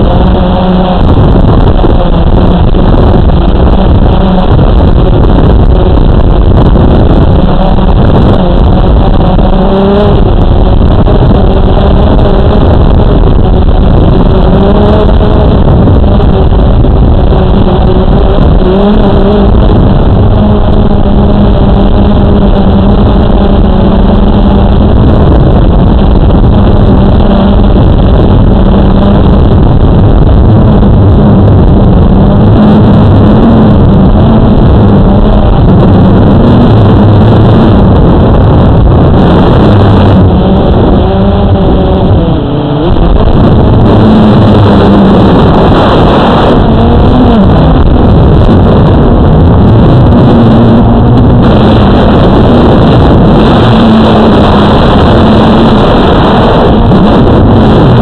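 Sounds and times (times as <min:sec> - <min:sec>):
quadcopter propellers buzzing: 0:00.0 - 0:58.0.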